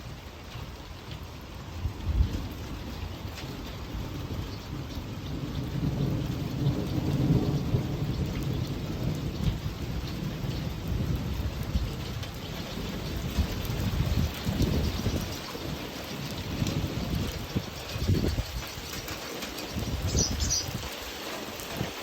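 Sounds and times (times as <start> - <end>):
heavy rain: 0.0 - 22.0
thunder rumble: 1.4 - 22.0.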